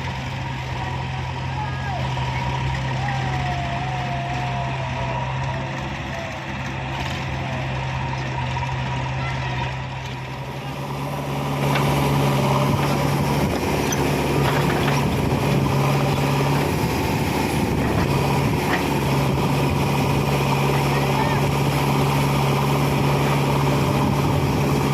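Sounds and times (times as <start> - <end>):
heavy diesel engine running: 0.0 - 24.9.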